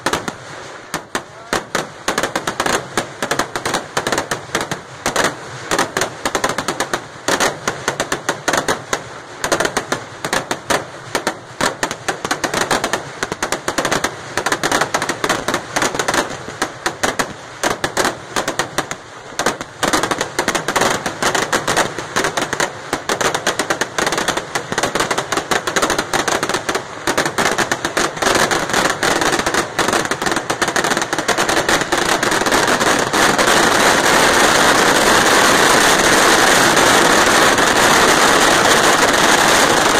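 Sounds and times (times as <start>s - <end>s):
firework explosions: 0.0s - 39.9s.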